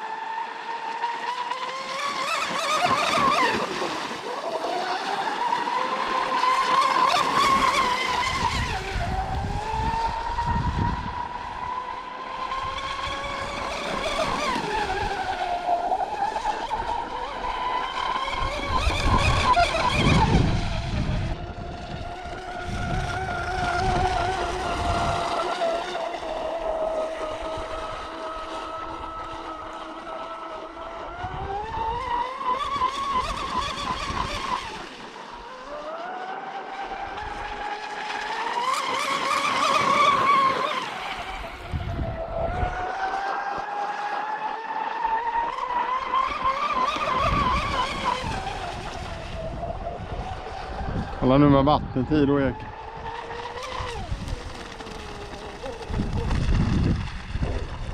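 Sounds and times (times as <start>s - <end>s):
electric boat motor whining: 0.0s - 57.9s.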